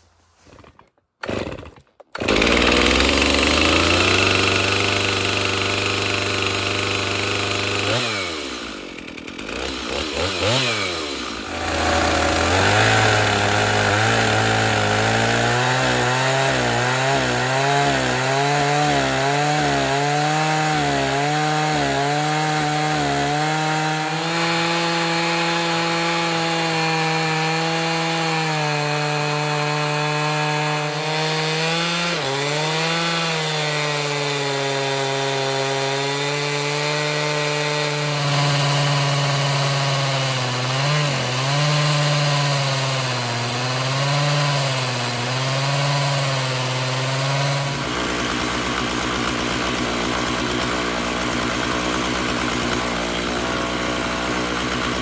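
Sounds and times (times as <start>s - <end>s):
chainsaw running at high revs: 1.2s - 55.0s.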